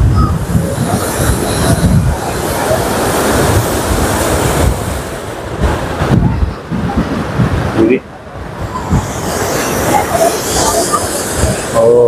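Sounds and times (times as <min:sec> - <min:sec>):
waves crashing on shore: 0:00.0 - 0:12.0.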